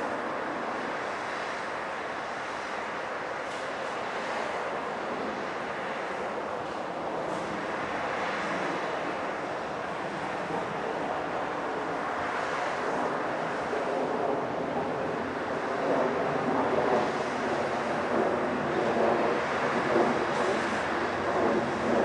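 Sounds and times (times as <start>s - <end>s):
train engine and wheels rumbling: 0.0s - 22.0s.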